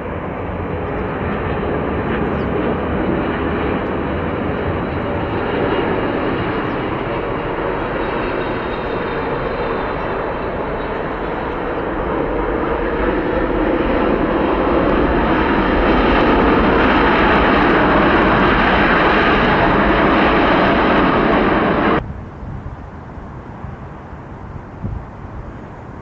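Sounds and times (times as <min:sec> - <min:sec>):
jet airliner engines rushing: 0:00.0 - 0:26.0.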